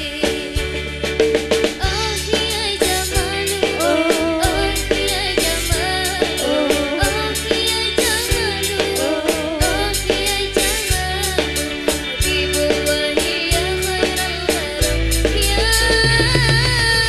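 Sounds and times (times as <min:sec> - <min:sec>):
woman singing into microphone: 0:00.0 - 0:00.8, 0:01.8 - 0:17.0
band playing steady beat: 0:00.0 - 0:17.0.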